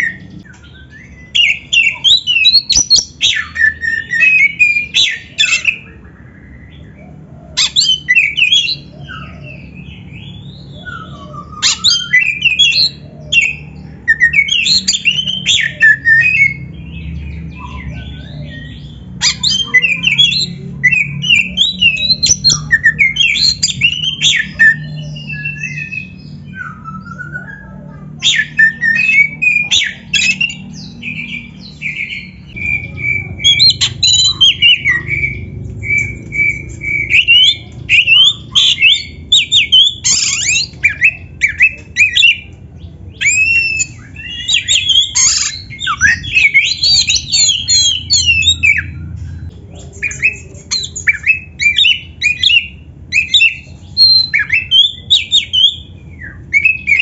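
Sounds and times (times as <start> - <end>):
bird singing whistles and chatter: 0.0 - 57.0.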